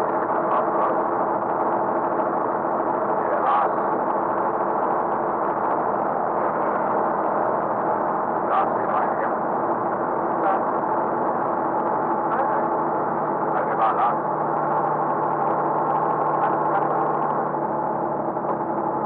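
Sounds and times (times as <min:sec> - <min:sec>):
low steady tone: 0:00.0 - 0:19.0
truck engine running: 0:00.0 - 0:19.0.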